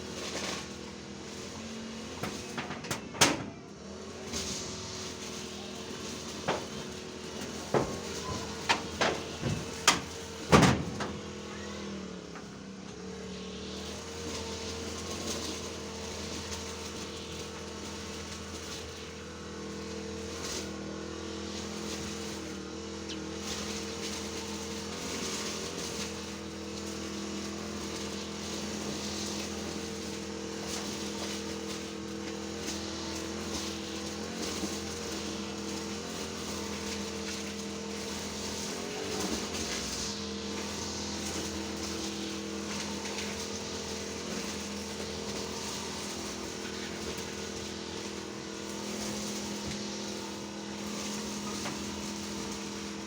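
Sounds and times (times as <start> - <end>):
mechanical engine drone: 0.0 - 53.0.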